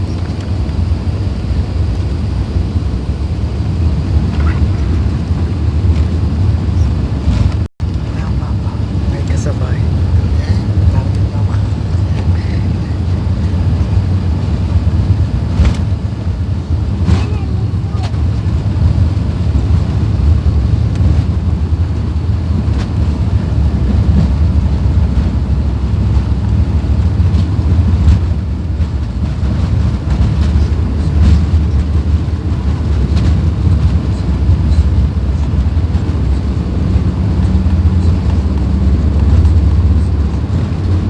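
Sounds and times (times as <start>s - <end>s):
jet engines rumbling in cabin: 0.0s - 41.0s
rushing air: 0.0s - 41.0s.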